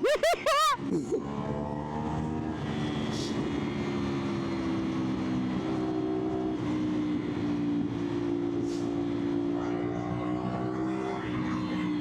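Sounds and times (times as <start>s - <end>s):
wind and road noise: 0.0s - 12.0s
motorcycle engine running: 1.0s - 12.0s.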